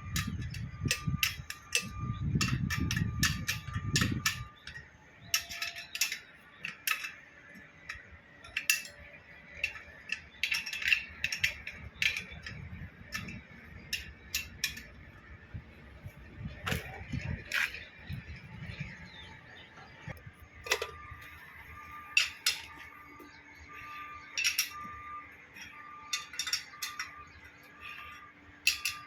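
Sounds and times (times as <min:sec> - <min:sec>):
metal parts clinking and knocking: 0:00.0 - 0:15.4, 0:16.4 - 0:19.2, 0:20.0 - 0:29.0.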